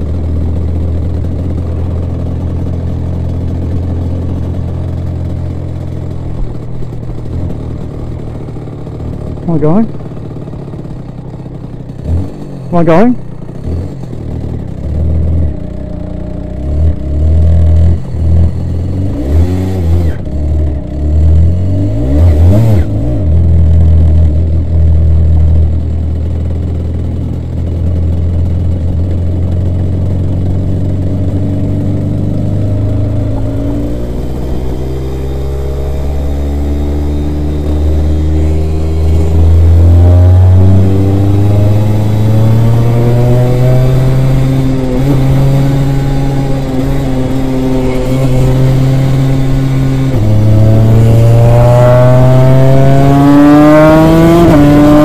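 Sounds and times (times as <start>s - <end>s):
two-stroke kart engine revving: 0.0s - 55.0s.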